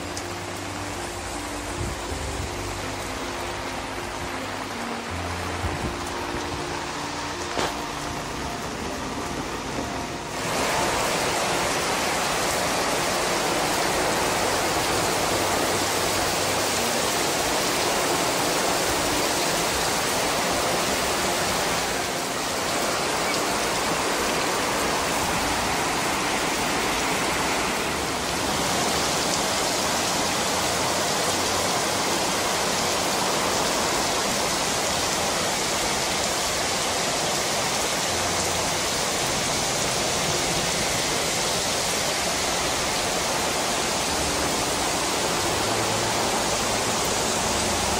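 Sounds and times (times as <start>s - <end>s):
heavy rain on pavement: 0.0s - 47.9s.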